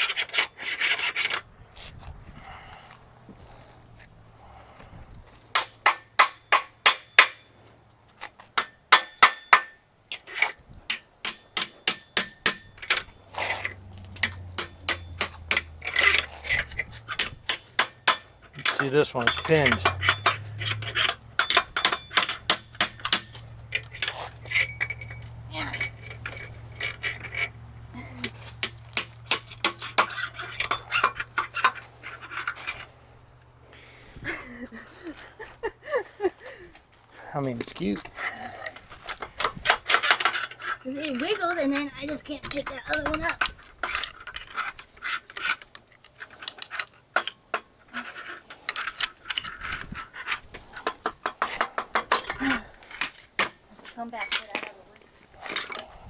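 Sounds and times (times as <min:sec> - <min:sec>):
steel engine parts clinking: 0:00.0 - 0:01.5, 0:05.5 - 0:07.5, 0:08.2 - 0:33.6, 0:37.8 - 0:56.0.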